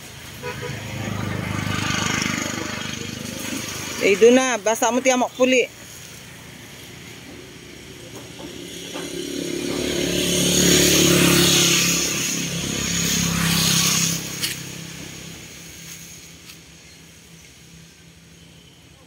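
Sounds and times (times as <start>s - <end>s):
vehicle engine passing by: 0.5s - 17.8s.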